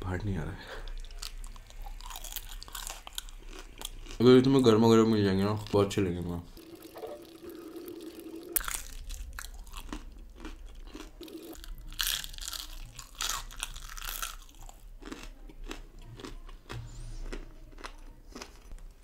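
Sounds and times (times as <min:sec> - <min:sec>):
chewing crunchy fried food: 0:00.6 - 0:19.0.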